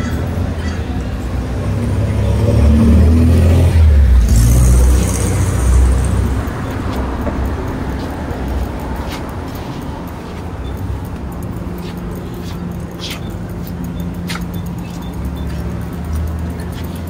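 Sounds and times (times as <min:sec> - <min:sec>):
car passing with low rumble: 0:00.0 - 0:17.0
traffic hum: 0:00.0 - 0:17.0.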